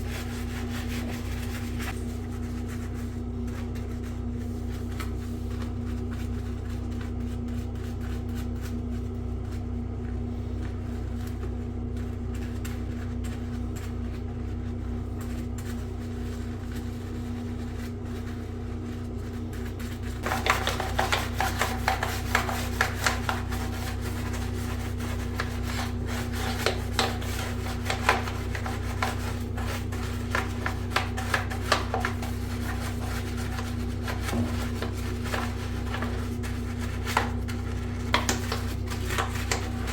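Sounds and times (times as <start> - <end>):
scrubbing and scraping hard parts: 0.0 - 39.9
steady low hum: 0.0 - 39.9.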